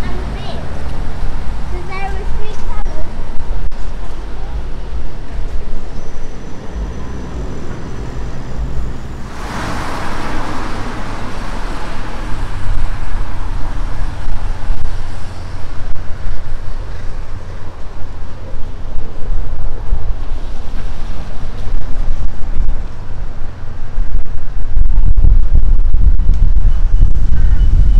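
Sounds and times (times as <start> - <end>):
city road traffic: 0.0 - 27.9
wind buffeting microphone: 0.0 - 27.9.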